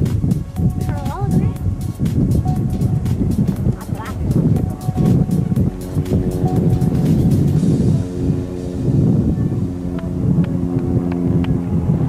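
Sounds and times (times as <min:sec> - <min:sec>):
aircraft engine and propeller droning: 0:00.0 - 0:12.0
wind rumble on microphone: 0:00.0 - 0:12.0.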